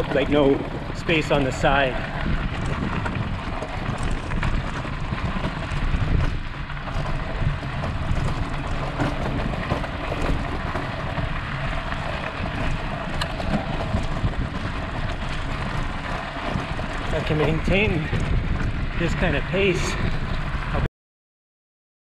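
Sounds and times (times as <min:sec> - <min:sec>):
bike tyres rolling on gravel: 0:00.0 - 0:20.9
wind rumbling on microphone: 0:00.0 - 0:20.9.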